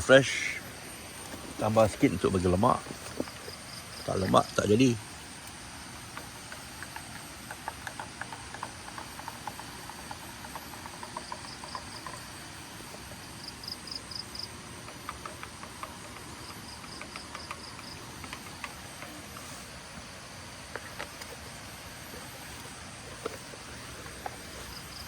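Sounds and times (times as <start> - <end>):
background hiss: 0.0 - 25.0
insects chirping: 0.0 - 25.0.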